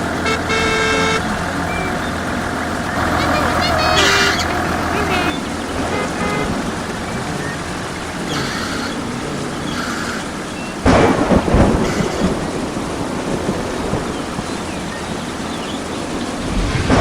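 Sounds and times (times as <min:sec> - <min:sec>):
steady rain: 0:00.0 - 0:17.0
thunderclap rumbling: 0:00.0 - 0:17.0.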